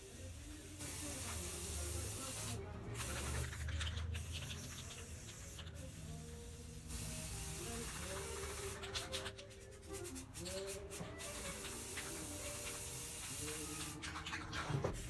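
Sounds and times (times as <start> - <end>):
spray can hissing: 0.0 - 14.6.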